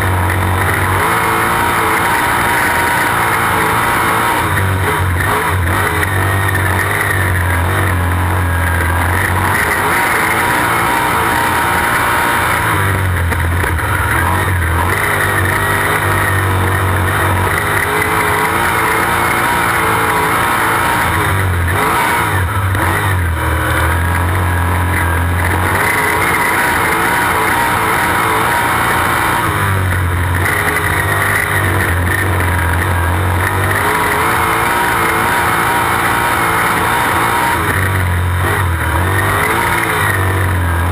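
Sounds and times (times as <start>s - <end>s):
racing car engine: 0.0s - 40.9s.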